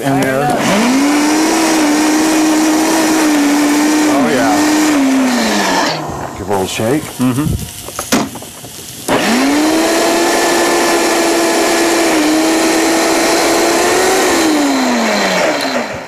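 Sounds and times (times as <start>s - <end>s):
blender motor whine: 0.0s - 16.0s.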